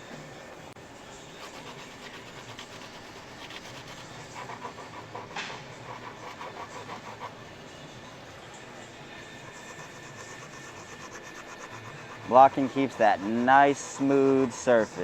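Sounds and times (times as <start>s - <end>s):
sanding block scraping: 1.3s - 15.0s.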